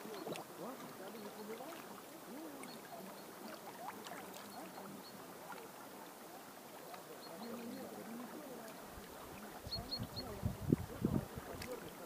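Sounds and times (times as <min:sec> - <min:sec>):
river water lapping: 0:00.0 - 0:12.0.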